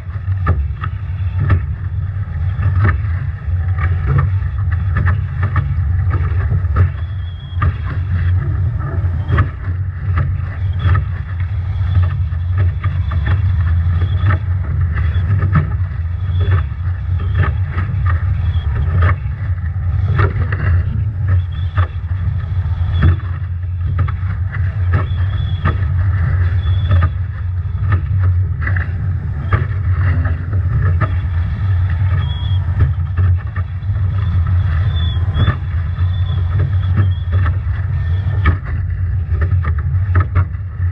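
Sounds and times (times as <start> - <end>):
faint high whine: 0.0 - 40.9
waves slapping against hull: 0.0 - 40.9
wind buffeting microphone: 0.0 - 40.9.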